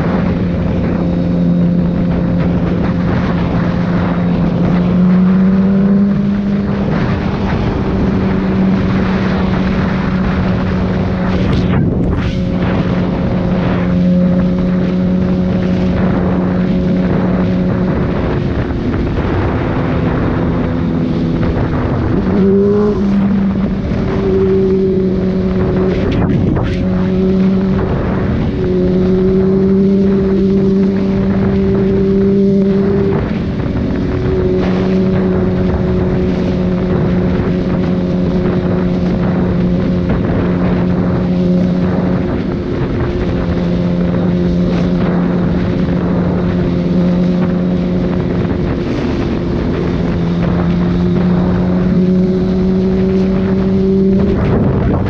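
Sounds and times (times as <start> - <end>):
motorcycle engine cruising: 0.0 - 55.0
wind on microphone: 0.0 - 55.0.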